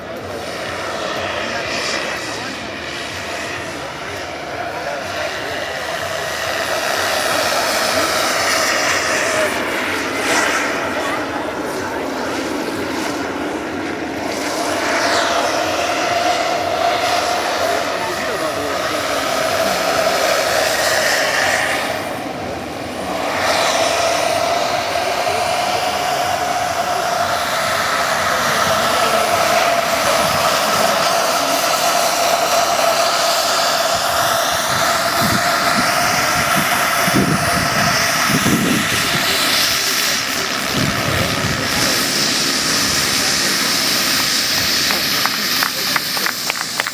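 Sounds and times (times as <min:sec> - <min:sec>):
model helicopter turbine whine: 0:00.0 - 0:46.9.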